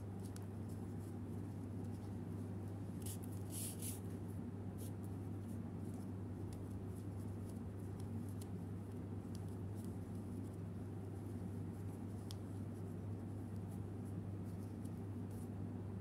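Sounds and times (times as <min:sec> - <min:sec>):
steady low hum: 0:00.0 - 0:16.0
yarn scratching and rustling: 0:00.1 - 0:15.6.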